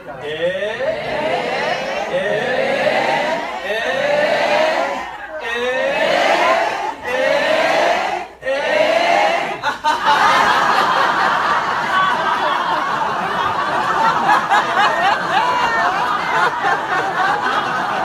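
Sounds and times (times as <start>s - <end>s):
group laughing: 0.0s - 7.1s, 9.2s - 18.0s.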